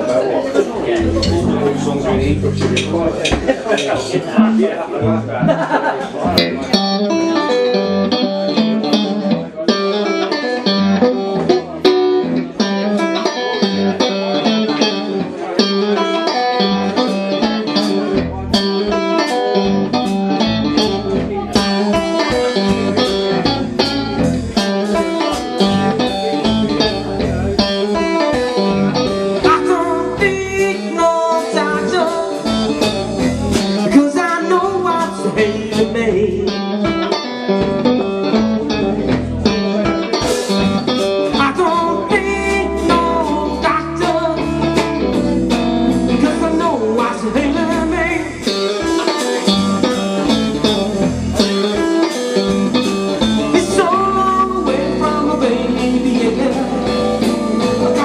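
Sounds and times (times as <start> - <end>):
bass: 0.0 - 58.0
lead guitar bending phrases: 0.0 - 58.0.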